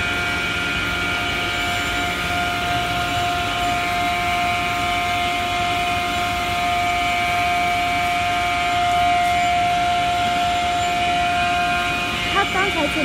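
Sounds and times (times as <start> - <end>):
factory machinery whining drone: 0.0 - 13.0.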